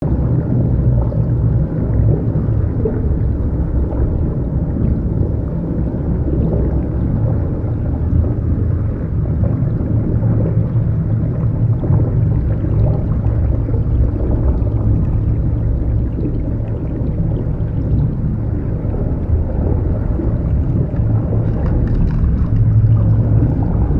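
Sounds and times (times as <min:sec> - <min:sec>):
faint bubbling and gurgling: 0:00.0 - 0:23.9
muffled underwater rumble: 0:00.0 - 0:23.9.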